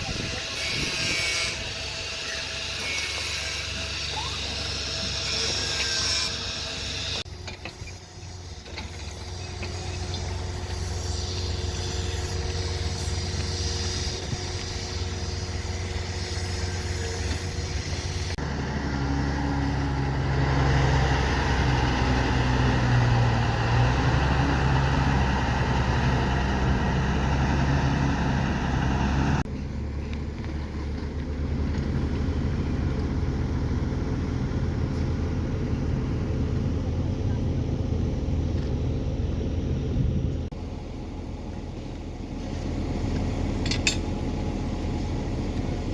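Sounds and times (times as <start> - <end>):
heavy machine engines running: 0.0 - 45.9.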